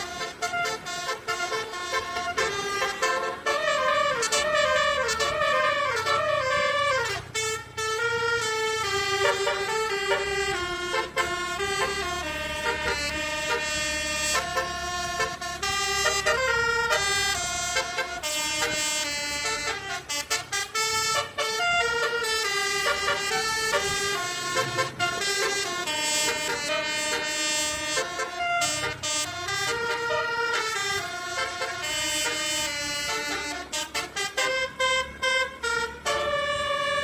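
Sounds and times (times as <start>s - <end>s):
musical air horn playing a tune: 0.0s - 37.0s.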